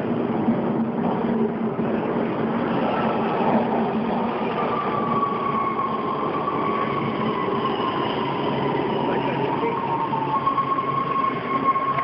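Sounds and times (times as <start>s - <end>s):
high whine of train: 0.0s - 12.0s
subway train rumbling on rails: 0.0s - 12.0s.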